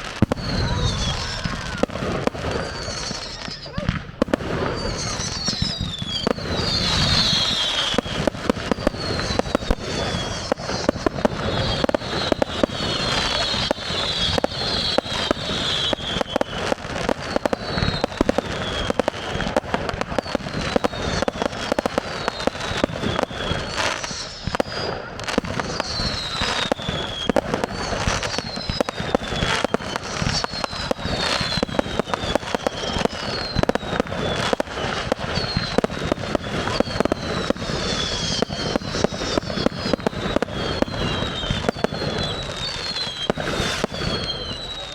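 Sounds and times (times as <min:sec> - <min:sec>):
falling firework whistles: 0:00.0 - 0:44.9
fireworks bangs and crackling: 0:00.0 - 0:44.9.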